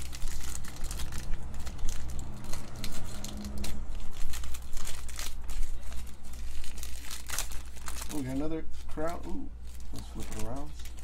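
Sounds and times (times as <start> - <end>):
foil pack crinkling: 0.0 - 11.0.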